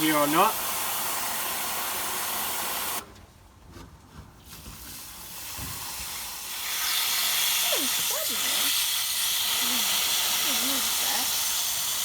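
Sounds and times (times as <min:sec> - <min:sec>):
water hissing from a hose: 0:00.0 - 0:03.0, 0:04.5 - 0:12.0.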